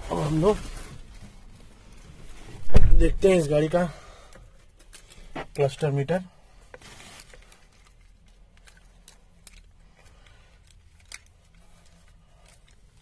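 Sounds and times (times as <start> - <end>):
faint handling noise: 0.2 - 13.0.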